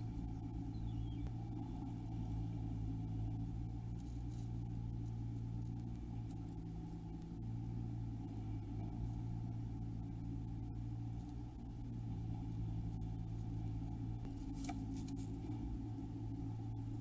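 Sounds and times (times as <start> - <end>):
low electrical hum: 0.0 - 17.0
faint scratches of bird: 1.6 - 17.0.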